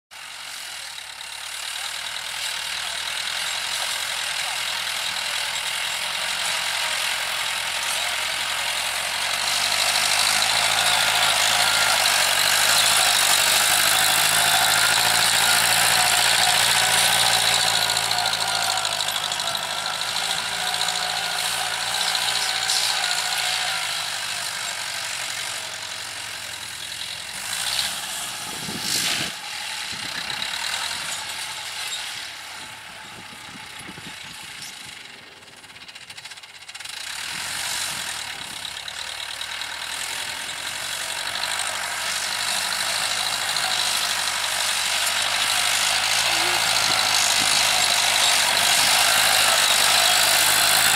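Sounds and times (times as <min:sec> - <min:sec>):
tractor diesel engine running: 0:00.1 - 0:50.9.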